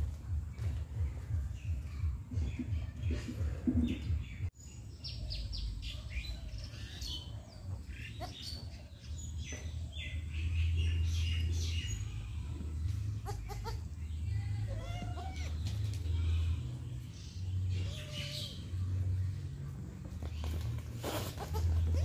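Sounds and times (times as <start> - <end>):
small birds chirping: 0.2 - 22.0.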